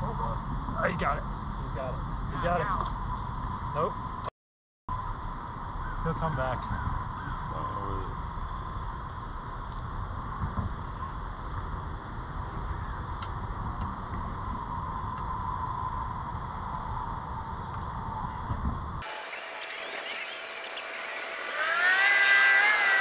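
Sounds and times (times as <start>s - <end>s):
outdoor background rumble: 0.0s - 4.3s, 4.9s - 23.0s.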